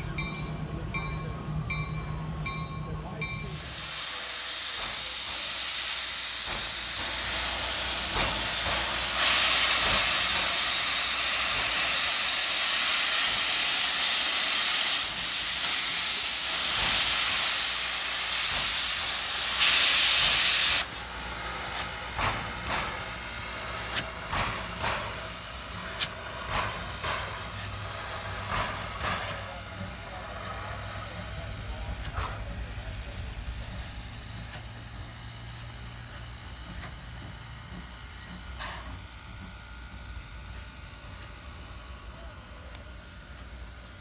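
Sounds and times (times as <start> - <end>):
locomotive exhaust puffs: 3.3 - 44.0
steam hissing loudly: 3.3 - 44.0.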